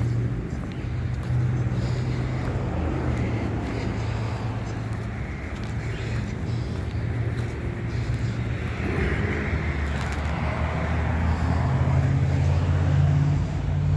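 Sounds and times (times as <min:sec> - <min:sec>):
car engine hum: 0:00.0 - 0:13.9
tyres on wet road: 0:00.0 - 0:13.9.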